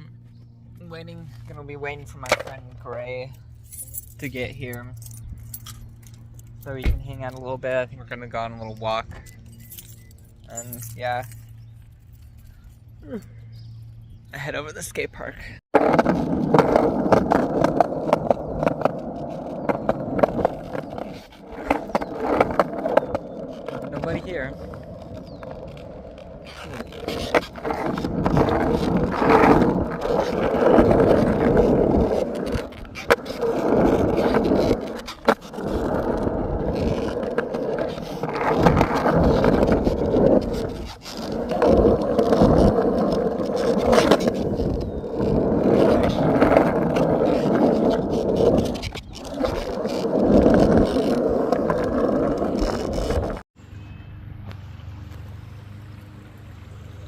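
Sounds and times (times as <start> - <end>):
skateboard wheels rolling on concrete: 0.2 - 3.6, 4.2 - 13.2, 14.0 - 53.5.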